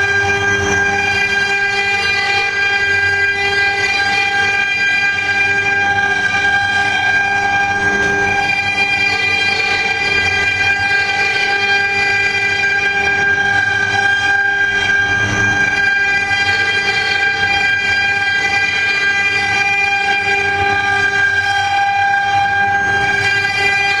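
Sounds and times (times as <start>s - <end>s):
wood lathe machine whine: 0.0s - 24.0s.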